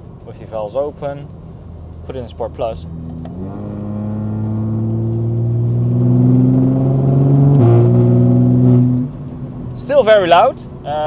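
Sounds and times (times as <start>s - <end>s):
car engine accelerating hard: 1.4s - 11.0s.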